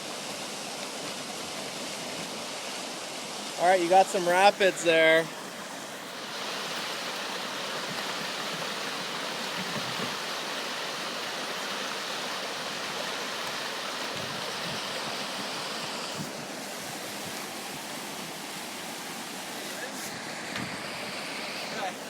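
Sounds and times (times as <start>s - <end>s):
river rapids rushing: 0.0s - 22.0s.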